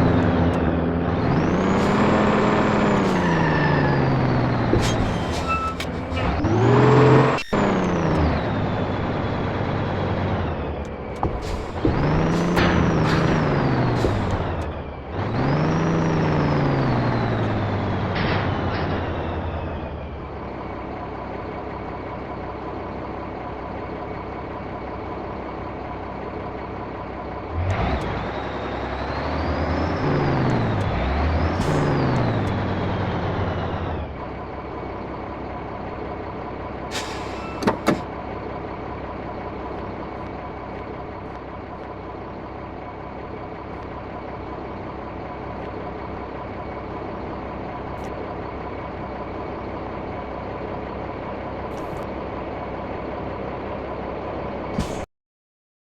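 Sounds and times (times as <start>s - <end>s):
truck diesel engine running: 0.0s - 55.1s.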